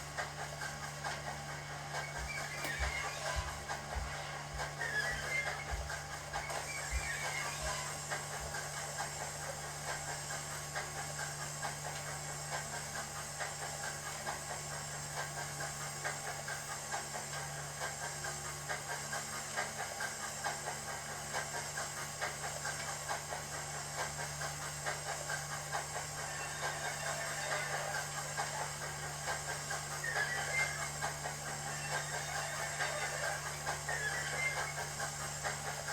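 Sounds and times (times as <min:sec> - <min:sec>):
steam locomotive exhaust chuffs: 0:00.0 - 0:35.9.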